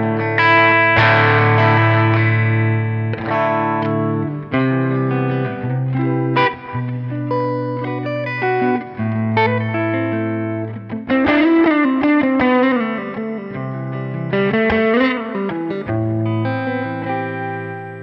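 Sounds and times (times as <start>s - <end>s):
electric guitar with chorus and delay: 0.0s - 18.0s.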